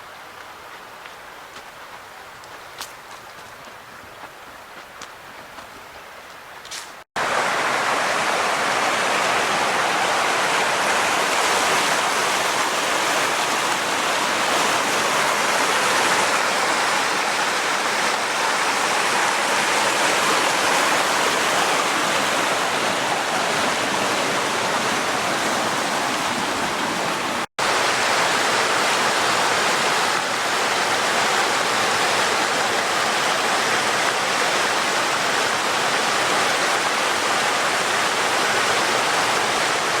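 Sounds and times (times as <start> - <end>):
creek water rushing over rapids: 7.2 - 40.0.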